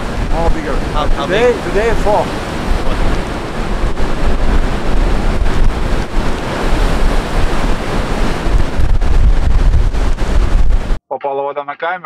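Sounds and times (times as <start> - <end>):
ocean waves breaking: 0.0 - 11.0
wind buffeting microphone: 0.0 - 11.0.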